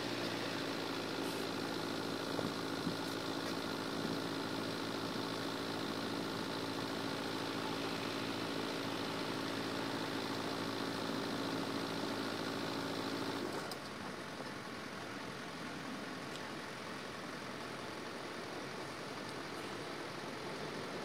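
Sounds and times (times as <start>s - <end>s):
background traffic hiss: 0.0s - 21.0s
car engine idling: 0.0s - 21.0s.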